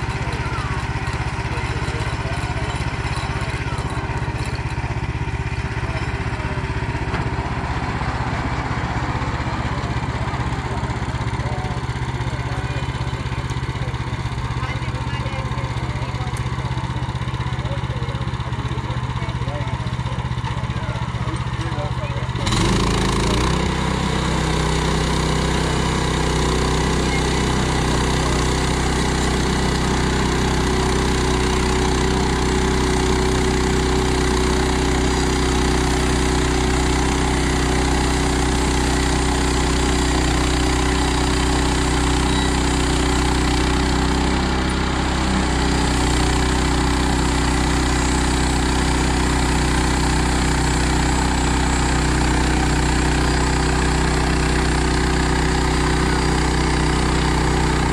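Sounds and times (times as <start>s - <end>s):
sawmill engine running: 0.0s - 57.9s.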